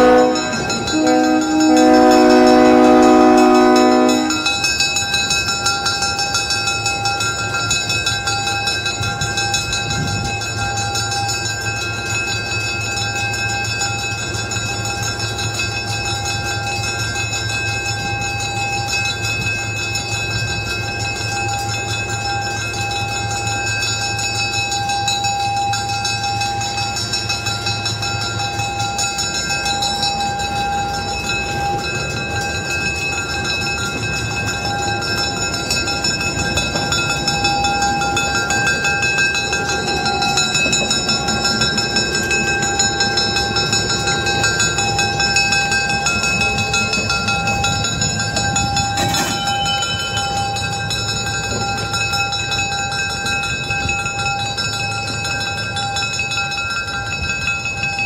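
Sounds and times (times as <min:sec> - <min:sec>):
diesel locomotive engine drone: 0:00.0 - 0:58.0
steady high-pitched tones: 0:00.0 - 0:58.0.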